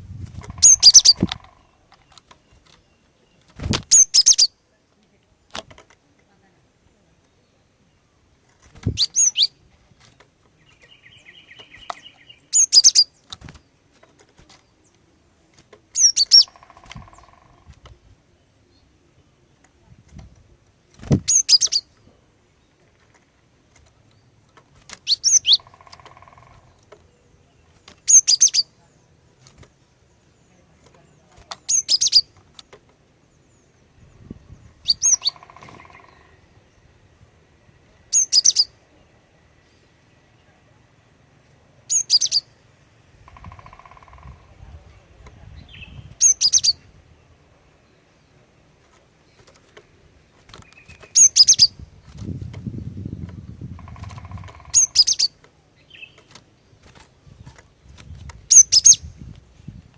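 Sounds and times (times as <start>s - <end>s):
bird chirping calls: 0.2s - 4.7s, 7.0s - 19.8s, 21.1s - 59.8s.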